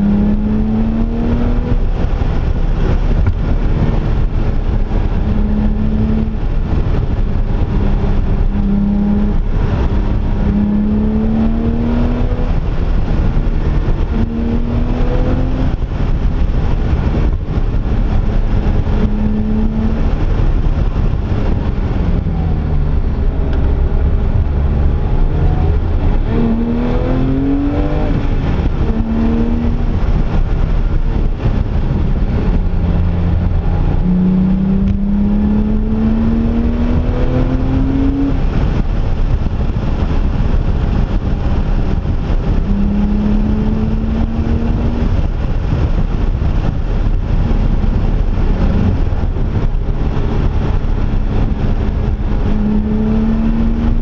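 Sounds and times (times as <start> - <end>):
car engine revving: 0.0 - 54.0
road and tyre rumble: 0.0 - 54.0.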